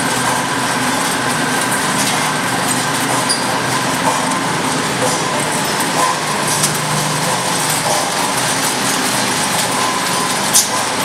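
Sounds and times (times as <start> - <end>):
bucket elevator running: 0.0 - 11.0.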